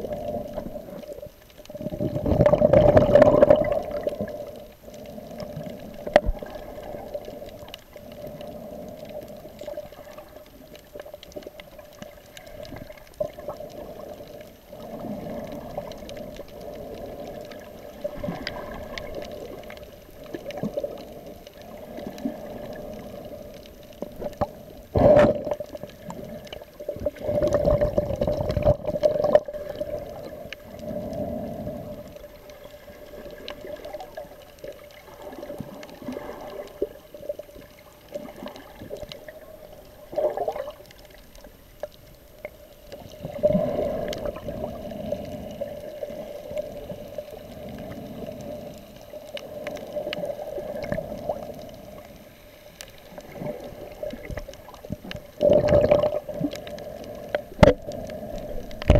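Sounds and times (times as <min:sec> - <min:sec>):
water moving and gurgling underwater: 0:00.0 - 0:58.9.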